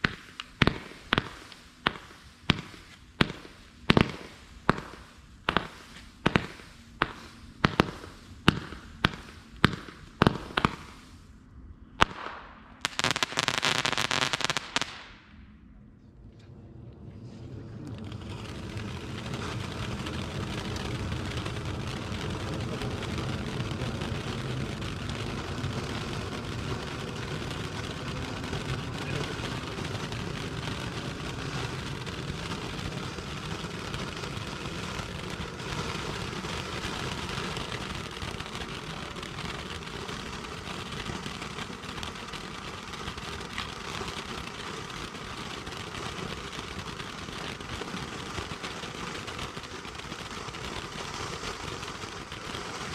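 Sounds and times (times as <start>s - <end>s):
firework fountain hissing and crackling: 0.0s - 15.5s, 16.6s - 52.9s.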